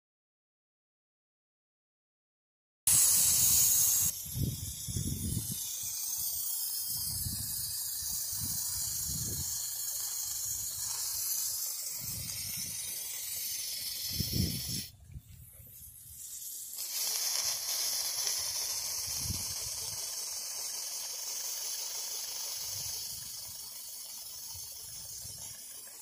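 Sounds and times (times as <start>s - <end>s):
steam hissing from leaks: 2.9s - 26.0s.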